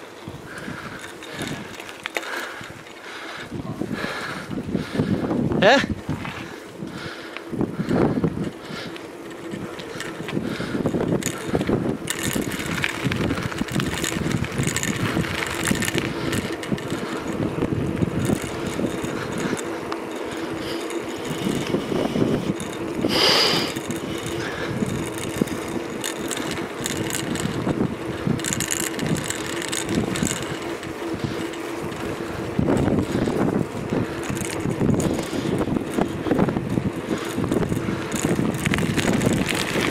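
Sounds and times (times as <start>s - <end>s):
bicycle tyres on tarmac: 0.0s - 39.9s
bike rattling and clicking: 0.0s - 39.9s
steady hum: 0.0s - 39.9s.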